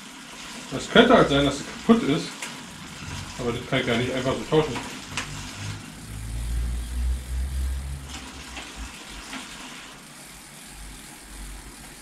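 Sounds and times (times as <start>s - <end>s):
bicycle wheel rumbling: 0.1s - 12.0s.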